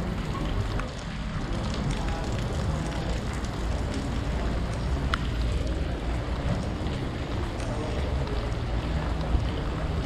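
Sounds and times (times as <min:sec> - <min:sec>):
faint distant voices: 0:00.0 - 0:10.0.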